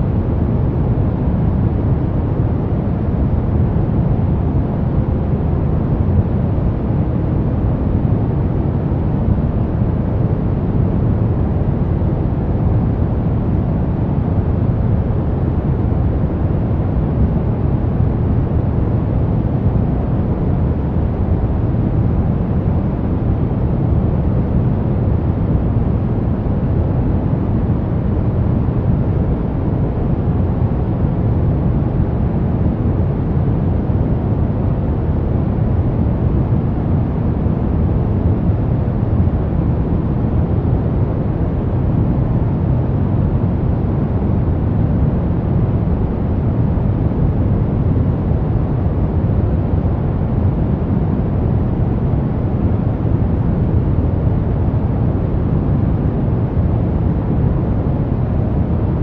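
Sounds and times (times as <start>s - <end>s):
brown noise rumble: 0.0s - 59.0s.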